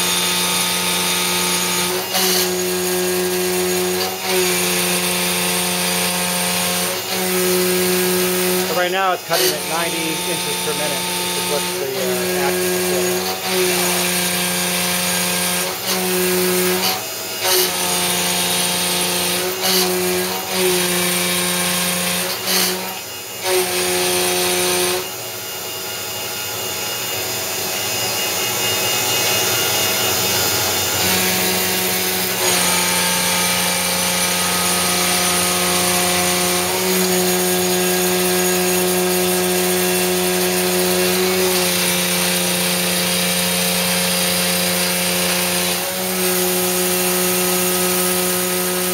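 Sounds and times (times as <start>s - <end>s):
milling machine cutting whine: 0.0s - 48.9s.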